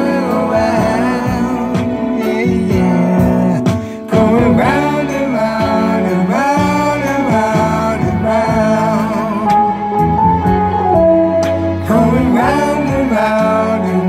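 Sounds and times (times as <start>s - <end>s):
band accompaniment: 0.0s - 14.0s
person singing soul song: 0.0s - 14.0s.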